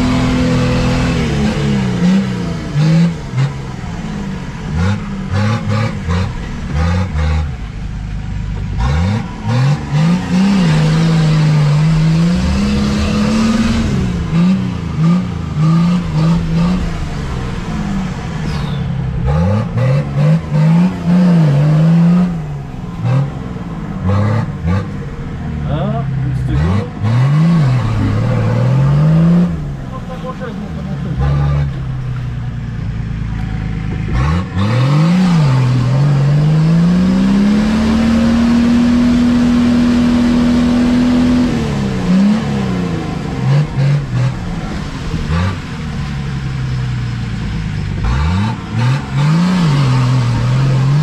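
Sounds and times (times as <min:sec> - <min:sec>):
off-road engine revving: 0:00.0 - 0:51.0.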